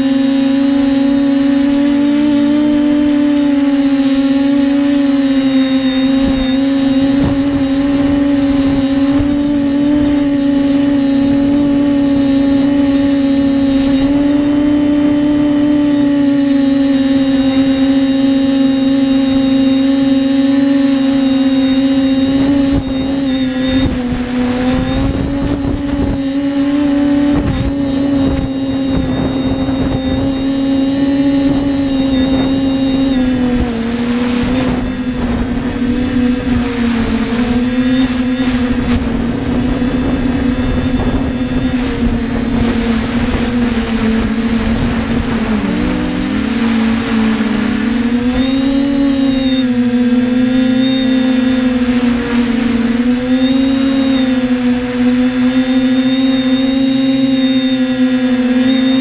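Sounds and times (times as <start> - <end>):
drone motors and propellers humming: 0.0 - 59.0
wind rumble on microphone: 0.0 - 59.0.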